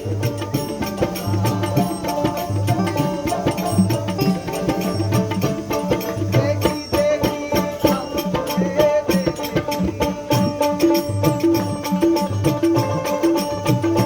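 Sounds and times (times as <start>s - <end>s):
fast hand-drum strokes: 0.0s - 14.0s
held melody line: 0.0s - 14.0s.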